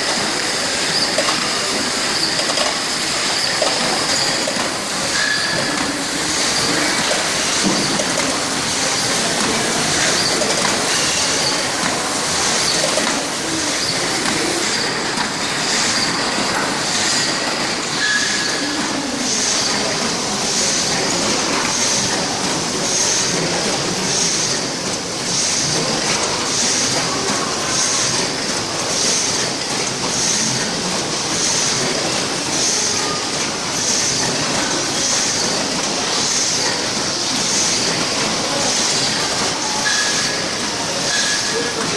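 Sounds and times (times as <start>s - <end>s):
die cutting machine clatter: 0.0s - 41.9s
rhythmic machine hissing: 0.0s - 41.9s.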